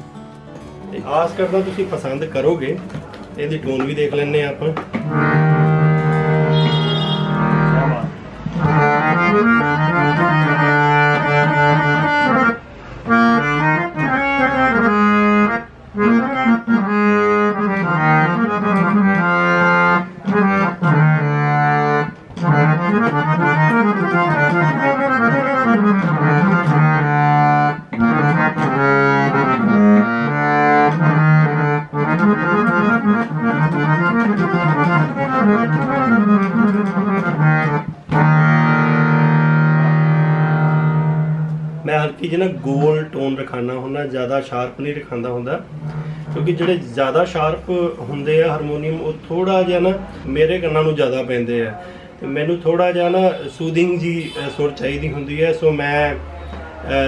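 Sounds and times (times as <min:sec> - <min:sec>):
harmonium melody: 0:00.0 - 0:57.0.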